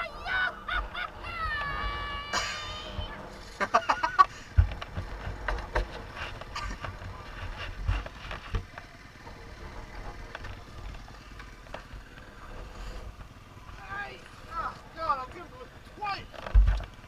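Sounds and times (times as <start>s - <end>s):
dirt bike engine drone: 0.0s - 17.0s.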